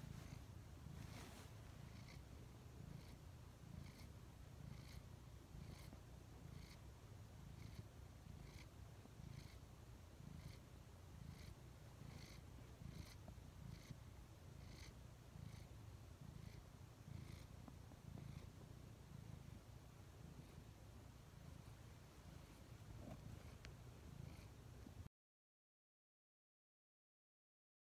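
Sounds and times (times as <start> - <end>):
cat purring: 0.0 - 25.1.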